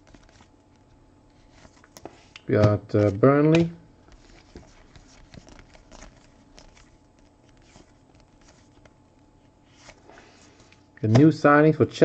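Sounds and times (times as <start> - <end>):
trading cards being flipped: 1.4 - 11.3.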